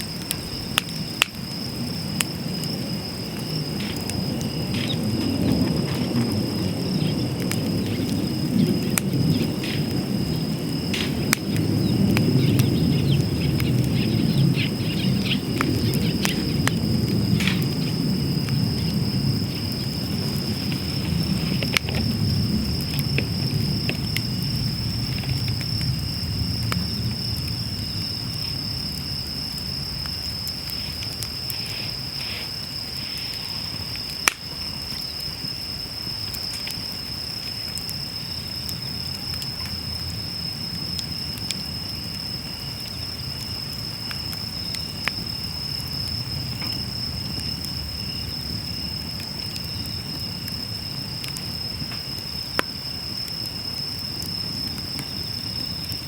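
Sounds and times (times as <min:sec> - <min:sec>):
crickets trilling: 0:00.0 - 0:56.0
wood fire burning with pops: 0:00.0 - 0:56.0.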